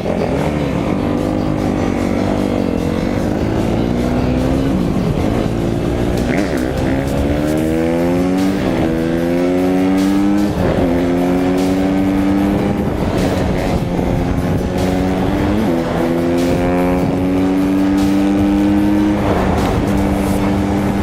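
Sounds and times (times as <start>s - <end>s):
vehicle engine shifting gears: 0.0s - 21.0s.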